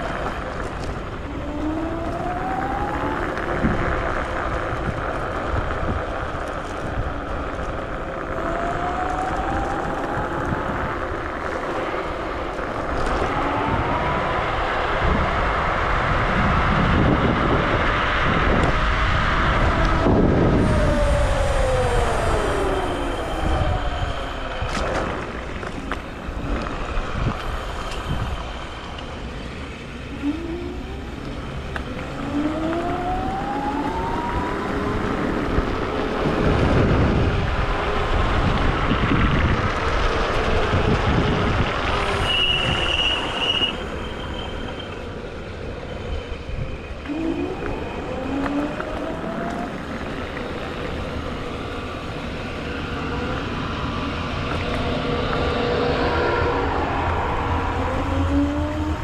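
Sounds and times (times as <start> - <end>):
electric scooter motors whining: 0.0 - 59.0
wind rushing on microphone: 0.0 - 59.0.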